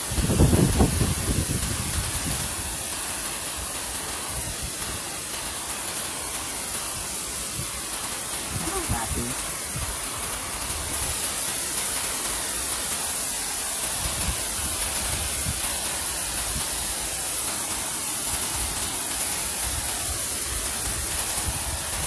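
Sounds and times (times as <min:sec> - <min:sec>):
high-pitched hiss: 0:00.0 - 0:22.0
river water flowing: 0:03.0 - 0:22.0.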